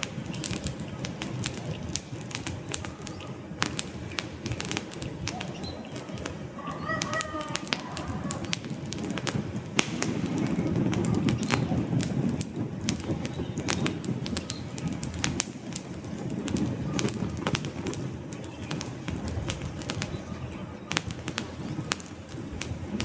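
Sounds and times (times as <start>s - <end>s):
logs crackling and popping: 0.0s - 23.0s
low rumble of flame: 0.0s - 23.0s.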